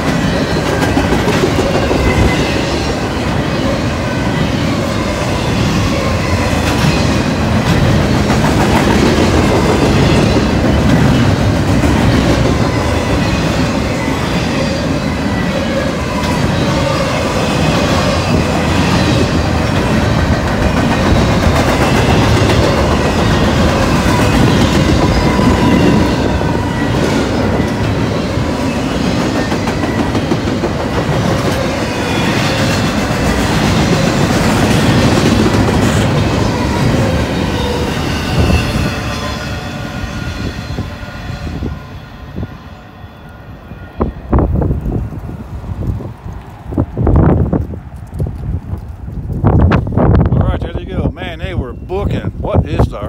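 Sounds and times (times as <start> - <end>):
freight train rumble and clatter: 0.0 - 42.7, 43.3 - 53.0.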